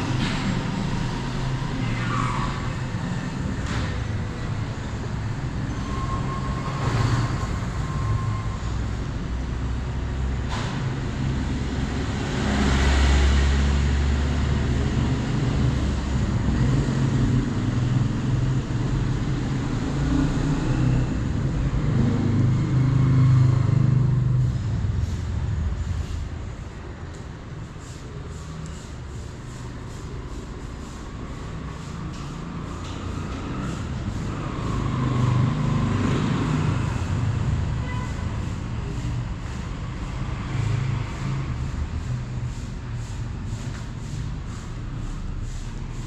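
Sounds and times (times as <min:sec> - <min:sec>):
vehicle engines rumbling: 0:00.0 - 0:46.0.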